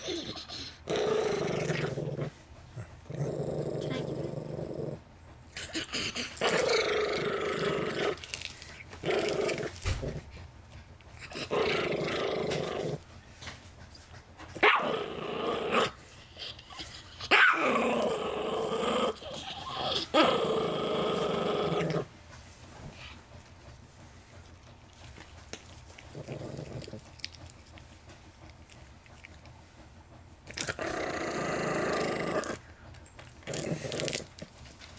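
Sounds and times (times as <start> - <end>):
dog growling and snarling: 0.0 - 22.2, 24.6 - 29.5, 30.4 - 34.9.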